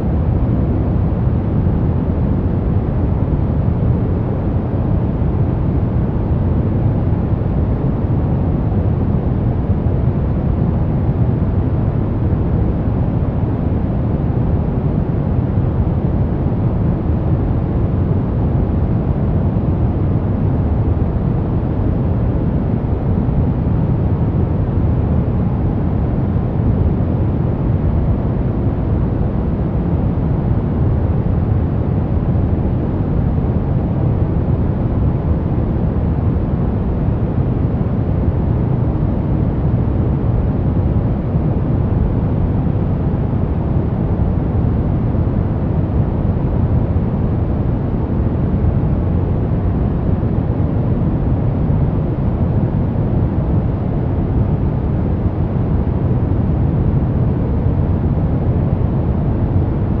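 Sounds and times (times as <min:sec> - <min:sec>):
deep white noise hiss: 0:00.0 - 1:00.0.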